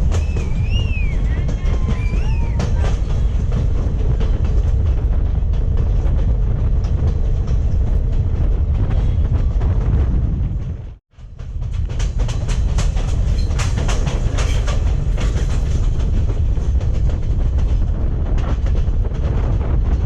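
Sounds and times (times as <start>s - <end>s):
train rumbling past: 0.0s - 20.0s
train wheels clicking over joints: 0.0s - 20.0s.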